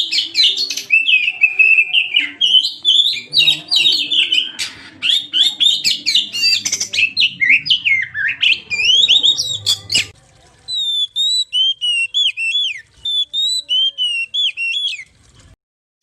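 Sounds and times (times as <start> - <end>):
bird singing whistles and chatters: 0.0 - 10.1, 10.7 - 15.1.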